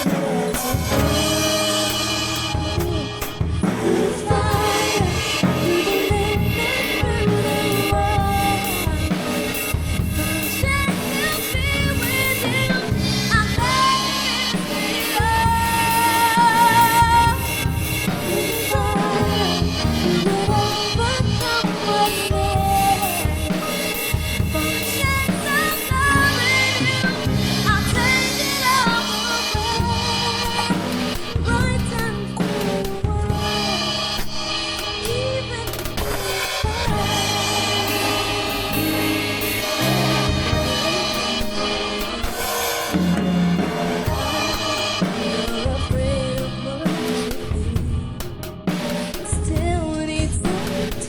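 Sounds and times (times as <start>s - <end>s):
cymbals washing: 0.0s - 47.5s
drum kit playing: 0.0s - 51.0s
pop ballad with singing: 0.0s - 51.0s.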